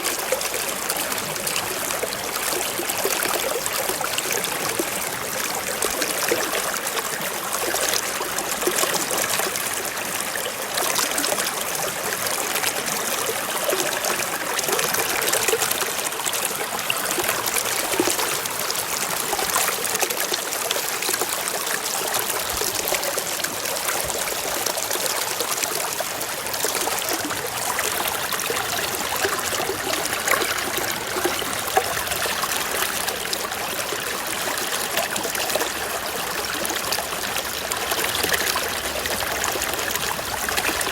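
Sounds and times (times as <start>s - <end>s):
small splashes and trickles: 0.0s - 40.9s.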